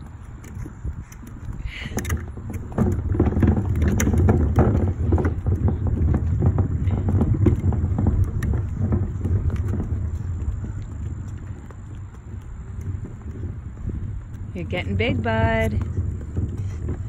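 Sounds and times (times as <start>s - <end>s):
trash can wheels rumbling on pavement: 0.0s - 17.0s.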